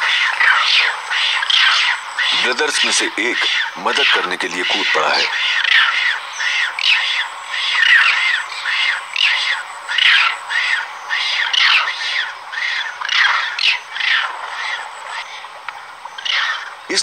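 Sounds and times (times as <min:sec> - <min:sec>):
high sweeping squeals: 0:00.0 - 0:15.4
shrill animal calls: 0:00.0 - 0:17.0.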